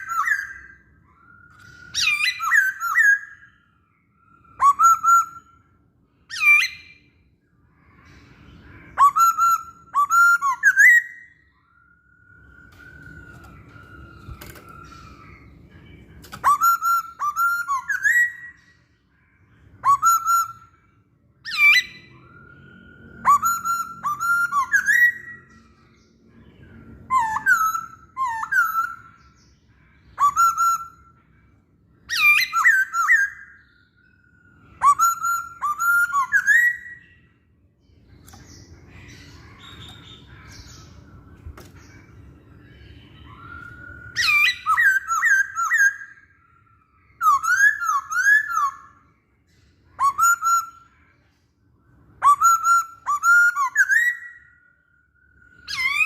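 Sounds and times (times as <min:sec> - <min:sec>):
laughingthrush whistled song: 0:00.0 - 0:37.3, 0:38.1 - 0:49.1, 0:49.9 - 0:51.2, 0:52.0 - 0:56.0.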